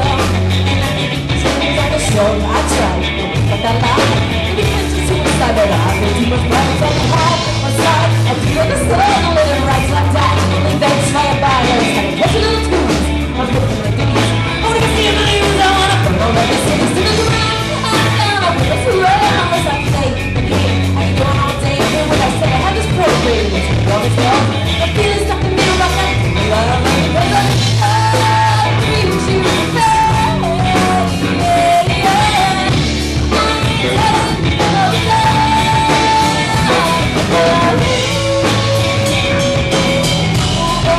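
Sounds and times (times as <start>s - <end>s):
live rock band playing: 0.0s - 40.9s
person singing: 0.0s - 40.9s.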